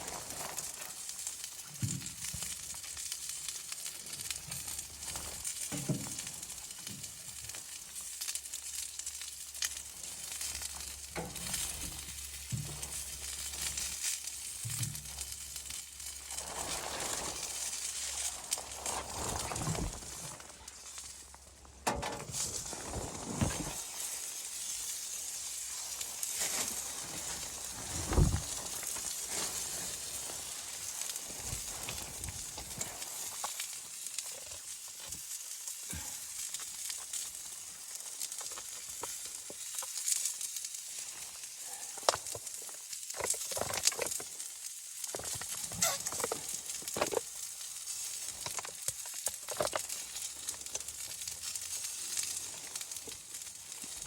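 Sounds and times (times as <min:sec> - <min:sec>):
steady sizzling hiss: 0:00.0 - 0:54.0.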